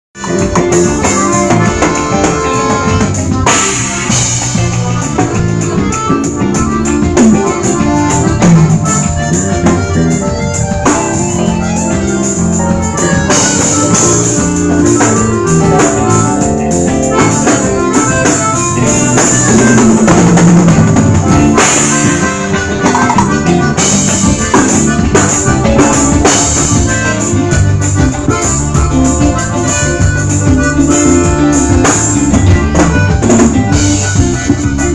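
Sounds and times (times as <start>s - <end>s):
live band playing: 0.1s - 34.9s
drum kit beat: 0.2s - 34.9s.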